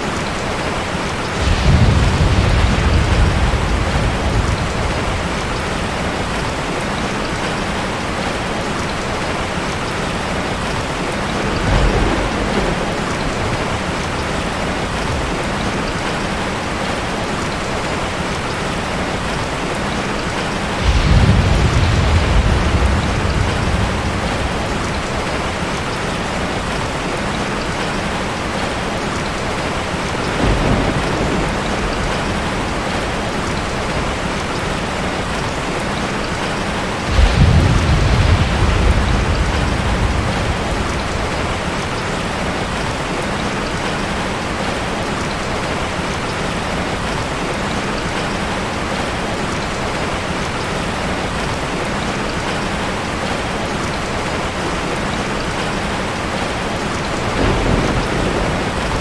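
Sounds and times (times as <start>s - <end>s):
thunder rumbling: 0.0s - 49.0s, 54.4s - 59.0s
heavy rain falling: 0.0s - 59.0s.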